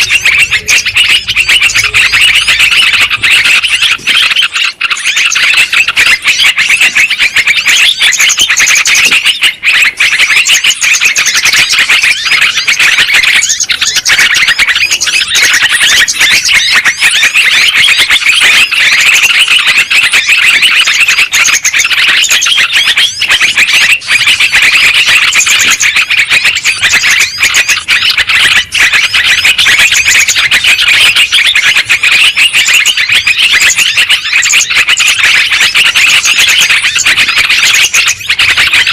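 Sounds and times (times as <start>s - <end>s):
bulbuls singing and chattering: 0.0s - 38.9s.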